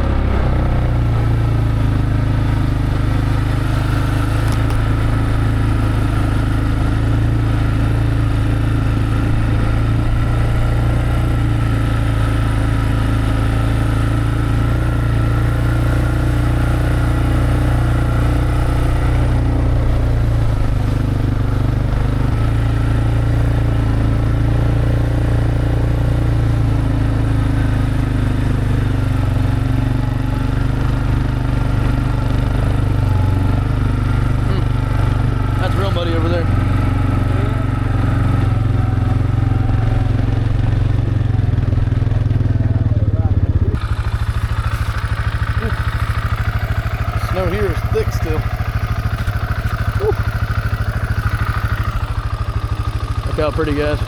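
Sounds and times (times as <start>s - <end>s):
vehicle engine running steadily: 0.0s - 54.0s.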